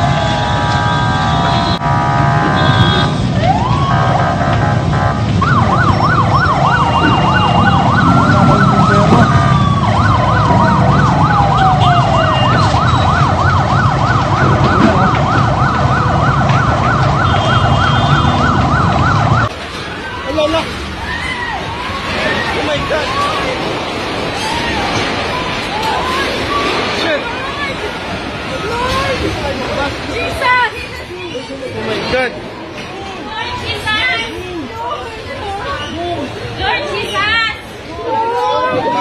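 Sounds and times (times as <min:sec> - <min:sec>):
emergency vehicle sirens: 0:00.0 - 0:30.8, 0:32.5 - 0:39.0.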